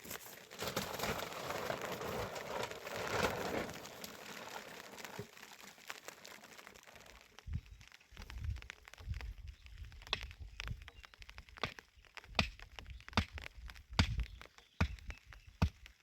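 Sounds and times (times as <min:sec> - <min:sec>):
crinkling rustling: 0:00.0 - 0:16.0
faint clicks and crackles: 0:00.0 - 0:16.0.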